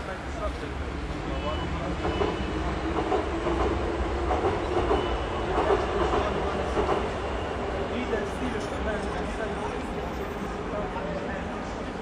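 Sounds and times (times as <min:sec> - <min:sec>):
low rumble of city noise: 0:00.0 - 0:12.0.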